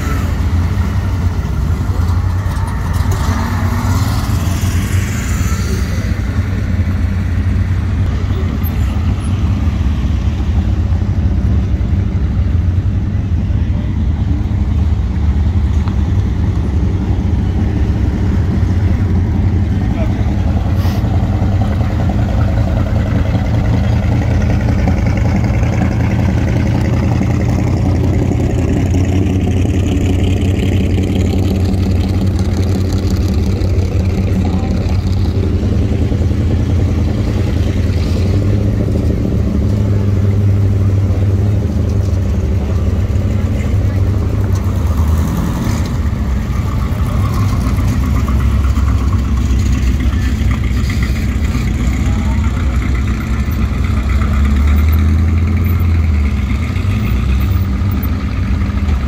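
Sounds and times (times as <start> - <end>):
people's voices: 0.0 - 9.6, 10.4 - 24.4, 29.8 - 55.0
car engines driving off: 0.0 - 59.0.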